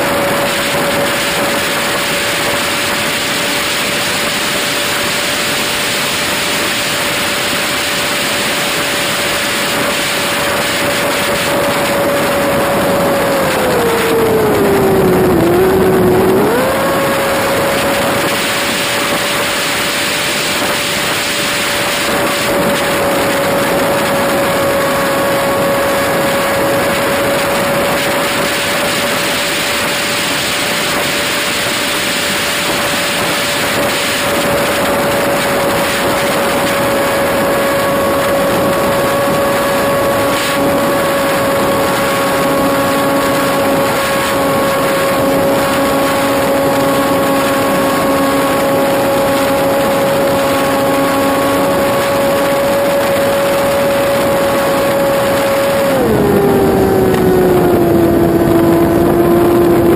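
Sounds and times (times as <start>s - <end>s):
model plane engine whine: 0.0s - 59.9s
wind rushing over microphone: 0.0s - 59.9s.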